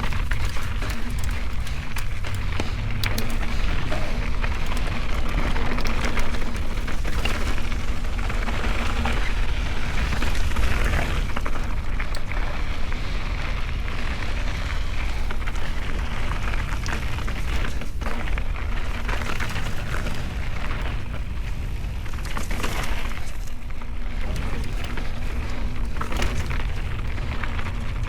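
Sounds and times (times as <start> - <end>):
bike rattling clicks: 0.0 - 28.0
tyres crunching over gravel: 0.0 - 28.0
wind rumbling on microphone: 0.0 - 28.0.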